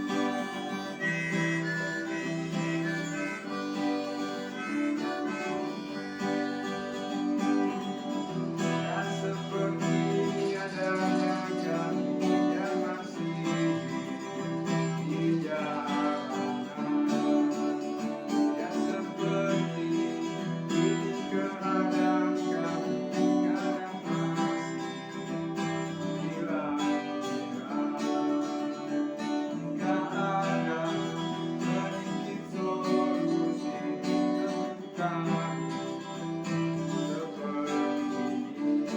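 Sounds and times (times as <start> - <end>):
acoustic guitar strumming: 0.0 - 38.9
guitar melody: 0.0 - 38.9.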